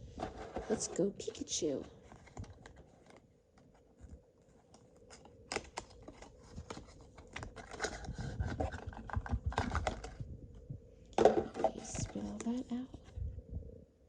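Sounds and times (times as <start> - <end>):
cards and cardboard rustling: 0.0 - 10.2, 11.2 - 13.2.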